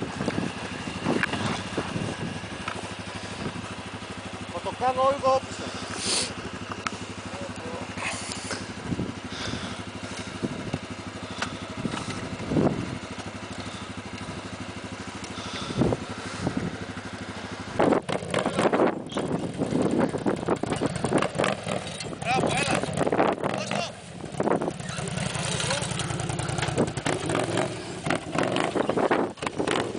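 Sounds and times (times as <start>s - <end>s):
atv engine idling and revving: 0.0s - 29.9s.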